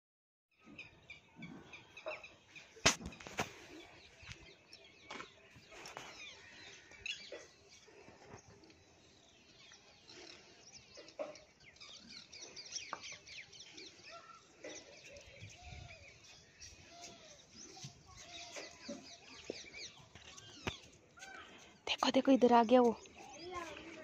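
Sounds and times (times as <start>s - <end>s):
many birds chirping: 0.6s - 24.0s.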